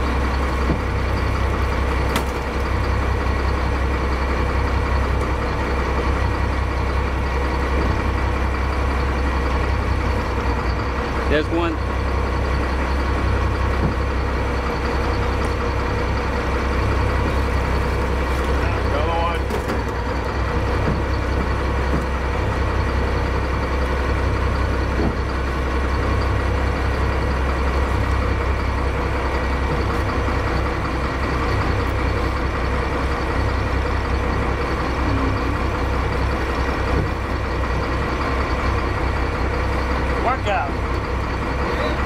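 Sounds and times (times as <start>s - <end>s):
boat engine idling: 0.0s - 42.0s.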